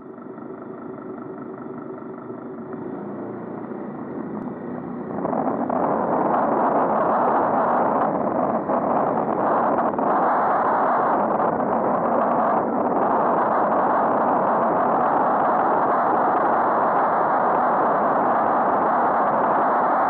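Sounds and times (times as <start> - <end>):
steady hum with held tones: 0.0 - 20.0
rush of wind and road noise: 2.7 - 20.0.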